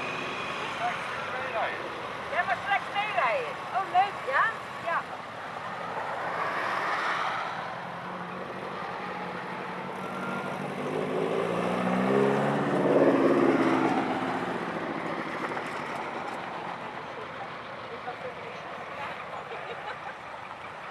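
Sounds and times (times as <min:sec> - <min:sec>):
motor trikes driving past: 0:00.0 - 0:20.9.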